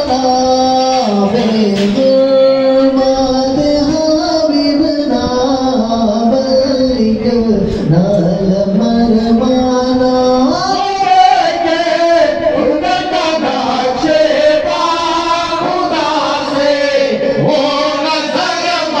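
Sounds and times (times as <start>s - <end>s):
men singing devotional song: 0.0s - 19.0s.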